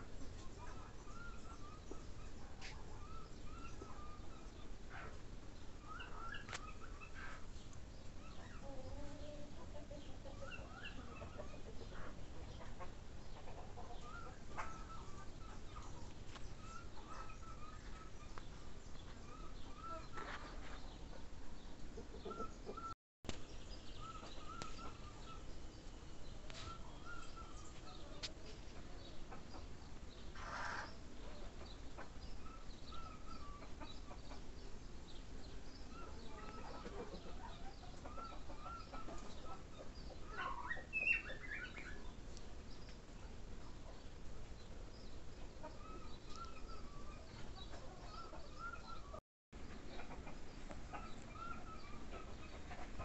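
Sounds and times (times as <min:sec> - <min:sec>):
birds calling: 0:00.0 - 0:21.3, 0:21.9 - 0:44.1, 0:44.9 - 0:53.0
low steady hiss: 0:00.0 - 0:49.0.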